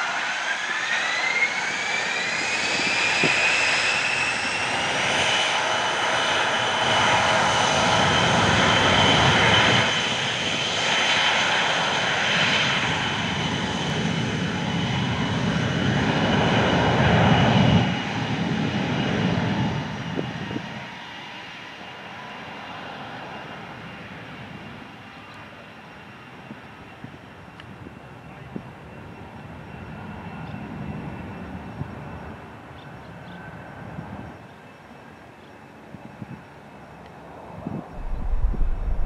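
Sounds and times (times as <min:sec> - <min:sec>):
jet engines whining and roaring: 0:00.0 - 0:39.0.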